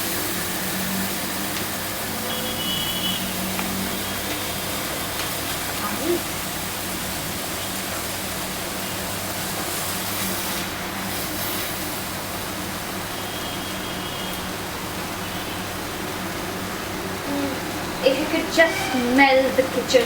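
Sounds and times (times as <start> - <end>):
gas burner flame hissing: 0.0 - 20.0.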